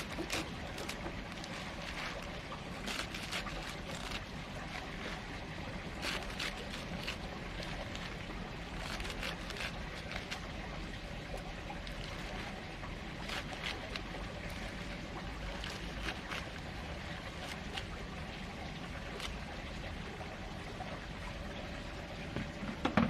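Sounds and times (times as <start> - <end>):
water splashing and trickling: 0.0 - 23.0.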